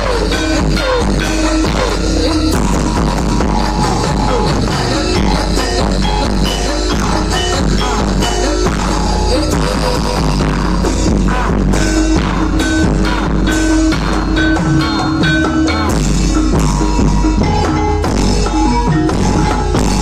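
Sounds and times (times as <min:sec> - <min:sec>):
gamelan ensemble music: 0:00.0 - 0:20.0.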